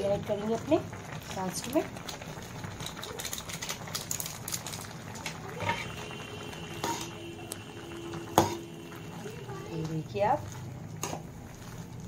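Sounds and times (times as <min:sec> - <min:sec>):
noodles bubbling in gravy: 0:00.0 - 0:12.0.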